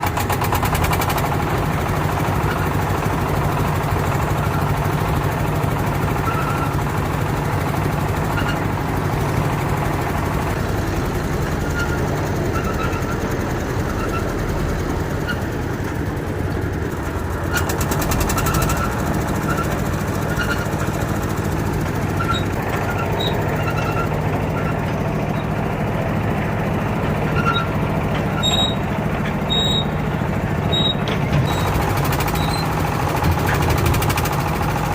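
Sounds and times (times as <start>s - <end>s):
boat diesel engine knocking: 0.0s - 34.9s.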